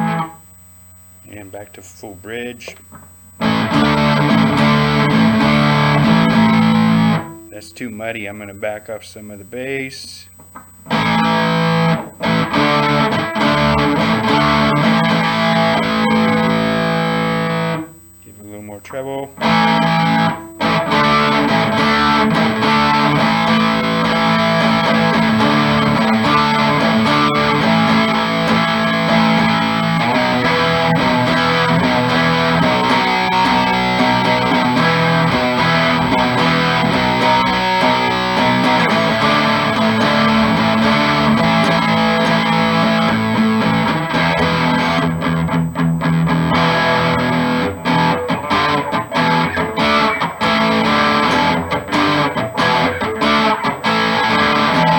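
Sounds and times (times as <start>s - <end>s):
electric guitar through amplifier: 0.0s - 54.9s.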